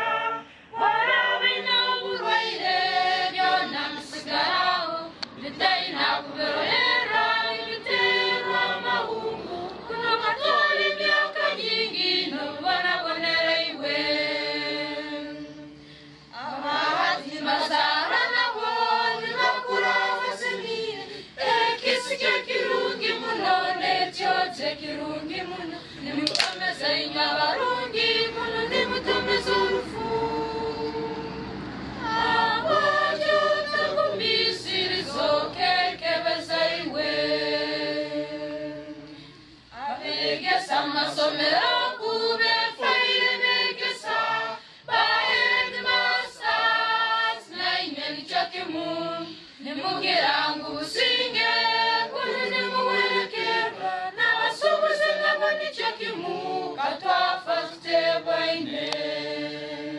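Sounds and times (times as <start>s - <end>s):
group singing unaccompanied: 0.0s - 59.9s.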